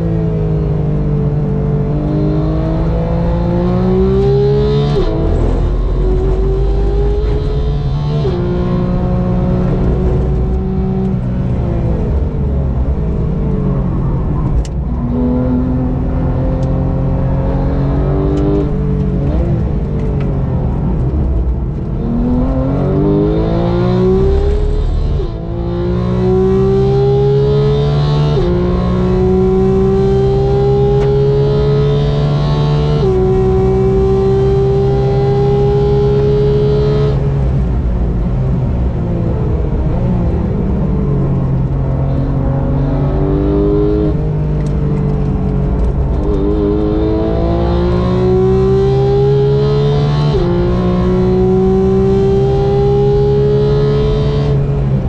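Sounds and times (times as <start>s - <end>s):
sports car engine accelerating: 0.0s - 55.0s.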